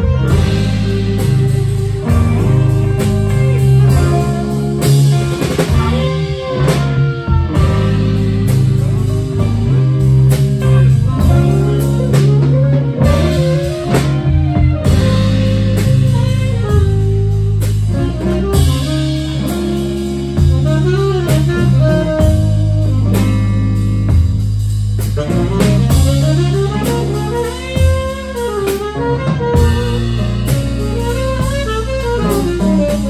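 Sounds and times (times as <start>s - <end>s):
bass guitar: 0.0s - 33.0s
drum kit: 0.0s - 33.0s
electric guitar: 0.0s - 33.0s
saxophones playing melodic lines: 0.0s - 33.0s.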